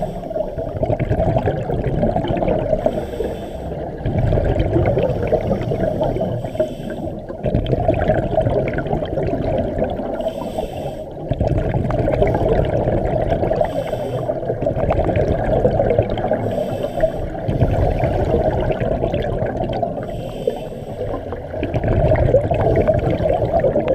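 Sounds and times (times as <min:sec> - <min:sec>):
exhaled bubbles gurgling: 0:00.0 - 0:23.9.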